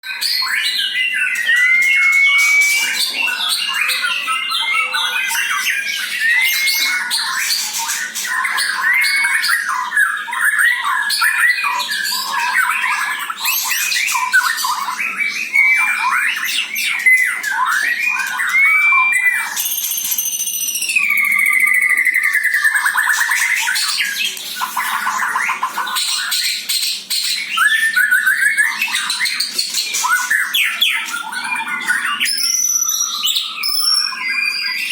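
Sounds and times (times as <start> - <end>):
bird singing whistles and chatter: 0.0 - 34.9.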